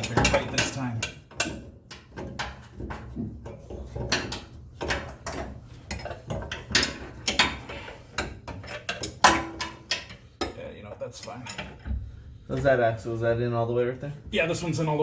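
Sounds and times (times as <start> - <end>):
metal clanks: 0.0 - 12.7.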